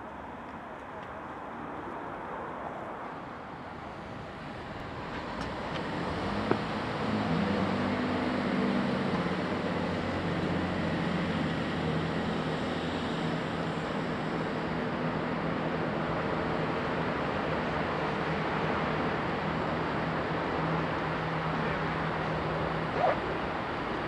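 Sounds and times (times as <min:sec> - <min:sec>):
diesel train engines humming: 0:00.0 - 0:24.0.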